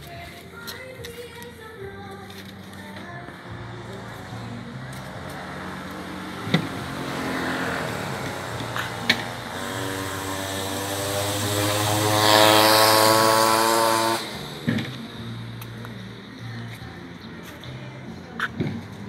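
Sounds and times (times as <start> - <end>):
engine running: 1.6 - 19.0.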